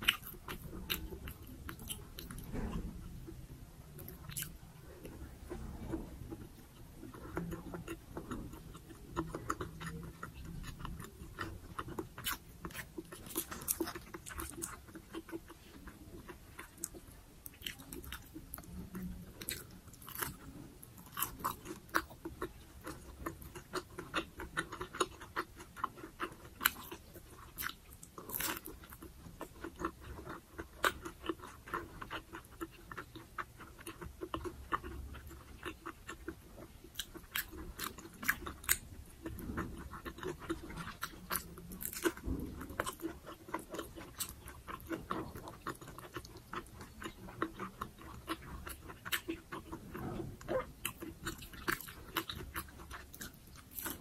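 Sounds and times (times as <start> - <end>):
crispy food crunching: 0.0 - 54.0.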